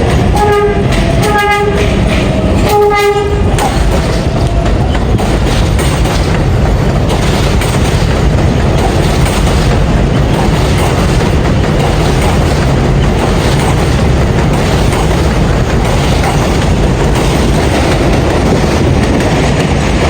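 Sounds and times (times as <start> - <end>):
subway train wheels rumbling on rail: 0.0 - 20.0.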